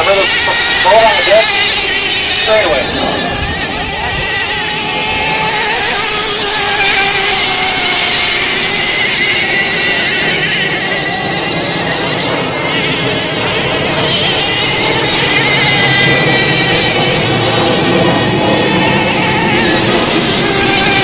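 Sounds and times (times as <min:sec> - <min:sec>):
high-pitched model boat engine whine: 0:00.0 - 0:21.0.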